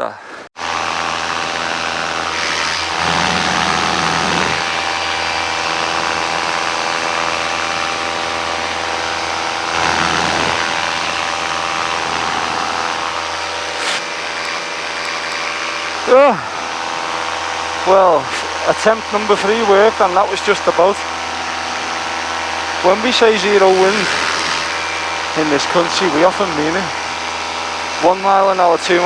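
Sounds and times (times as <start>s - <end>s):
paramotor engine droning: 0.6s - 29.0s.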